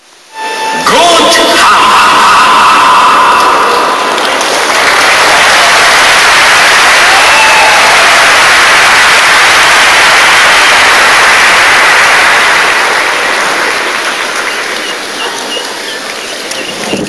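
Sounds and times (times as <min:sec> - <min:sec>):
audience applauding: 0:02.7 - 0:17.0.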